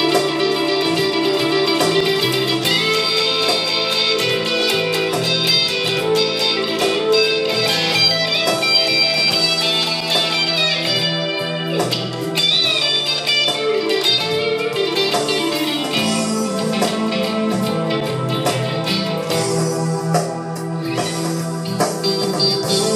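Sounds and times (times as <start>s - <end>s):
electric guitar notes and chords: 0.0s - 22.9s.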